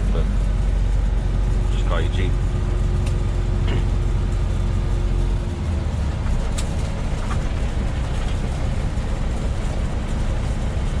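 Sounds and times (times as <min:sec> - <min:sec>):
truck diesel engine drone: 0:00.0 - 0:11.0
tyre noise on snowy road: 0:00.0 - 0:11.0.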